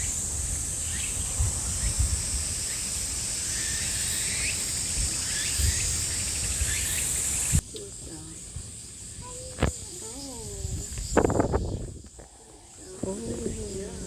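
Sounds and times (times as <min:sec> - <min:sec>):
insect chirps: 0:00.0 - 0:14.0
insects buzzing drone: 0:00.0 - 0:14.0.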